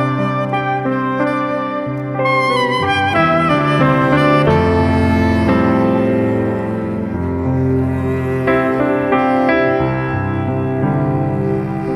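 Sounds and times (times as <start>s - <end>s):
instrumental music: 0.0s - 11.9s.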